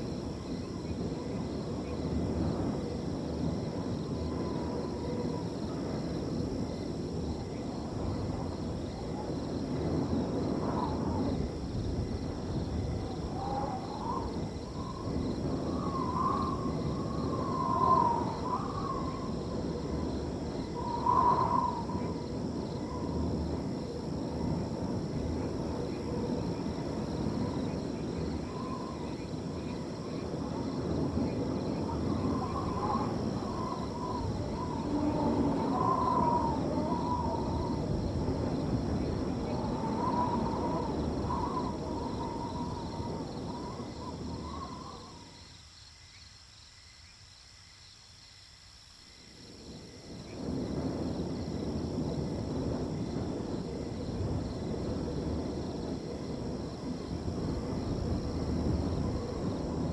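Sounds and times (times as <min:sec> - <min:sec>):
crickets trilling faintly: 0:00.0 - 0:59.9
wind blowing through field: 0:00.0 - 0:59.9.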